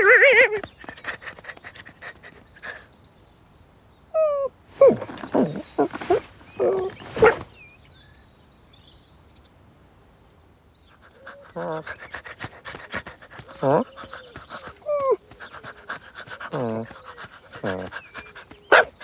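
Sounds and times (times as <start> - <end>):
small birds twittering: 0.0 - 19.0.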